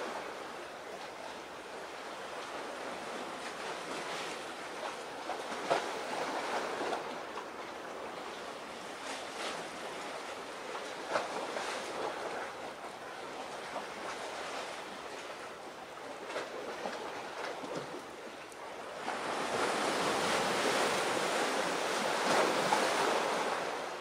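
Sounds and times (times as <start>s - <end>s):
sea waves washing: 0.0s - 24.0s
wave splashes: 0.0s - 24.0s.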